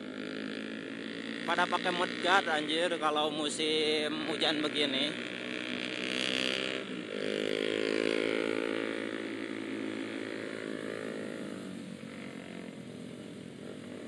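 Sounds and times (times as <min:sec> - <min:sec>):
motorcycle engine running: 0:00.0 - 0:14.0
wind and road rush: 0:00.0 - 0:14.0.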